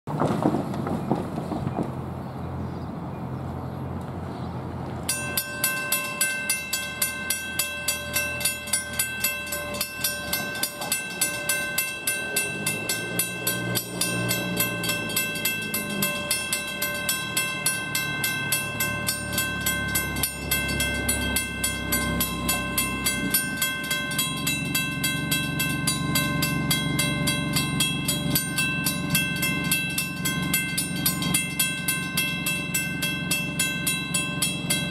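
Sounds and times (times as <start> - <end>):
low engine hum: 0.1 - 34.9
crossing warning bell ringing: 5.0 - 34.9.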